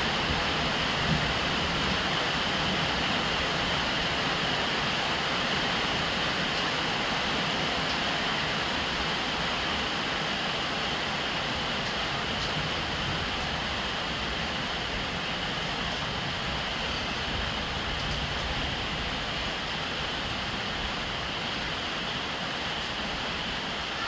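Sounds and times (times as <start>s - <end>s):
rain on a roof: 0.0s - 24.0s.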